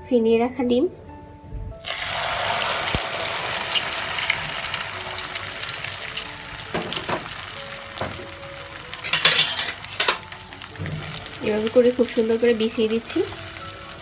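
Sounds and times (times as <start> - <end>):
egg mixture sizzling in hot oil: 1.8 - 14.0
oil crackling: 1.8 - 14.0.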